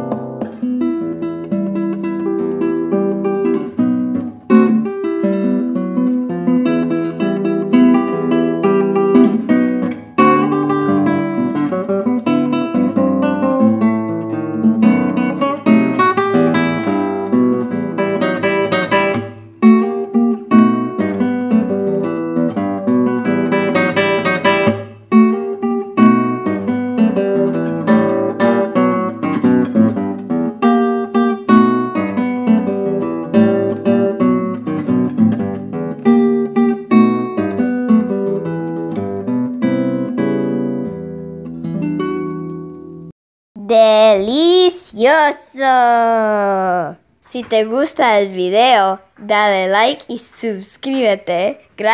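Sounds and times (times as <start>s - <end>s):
acoustic guitar strummed and plucked: 0.0s - 51.9s.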